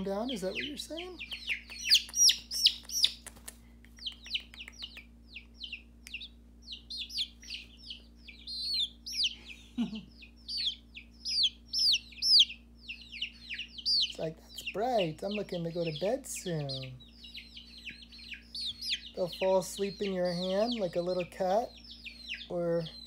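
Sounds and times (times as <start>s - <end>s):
baby chicks peeping: 0.0s - 23.0s.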